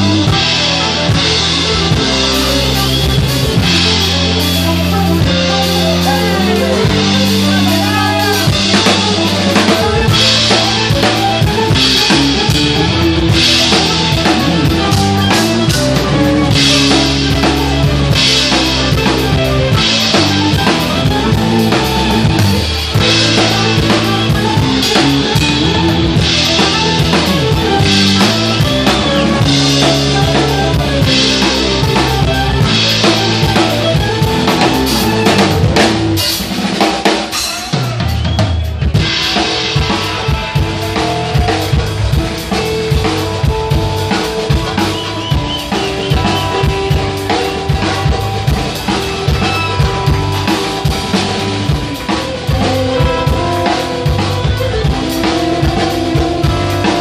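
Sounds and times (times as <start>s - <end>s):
band playing: 0.0s - 57.0s
bass drum: 0.0s - 57.0s
cymbals: 0.0s - 57.0s.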